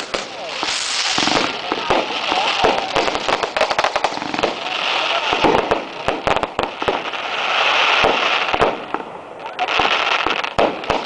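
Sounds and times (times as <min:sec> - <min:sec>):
fireworks crackling bangs: 0:00.0 - 0:11.0
fireworks fizzing hiss: 0:00.0 - 0:11.0.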